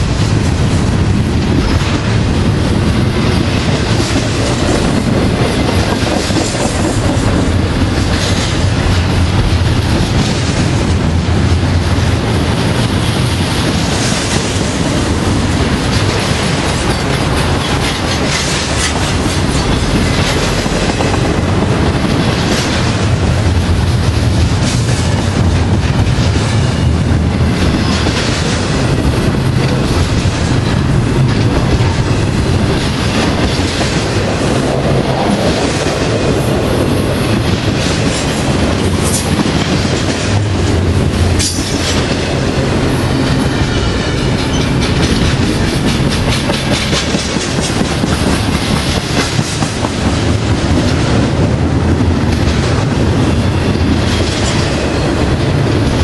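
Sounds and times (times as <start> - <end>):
wheels clacking over rail joints: 0.0 - 56.0.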